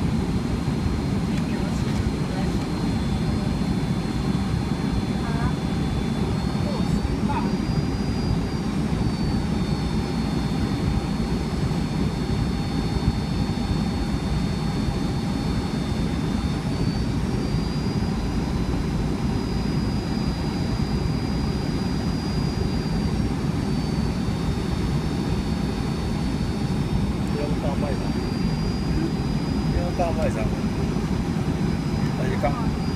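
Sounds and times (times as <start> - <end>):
high engine whine: 0.0 - 32.9
jet engine and airflow rumble: 0.0 - 32.9.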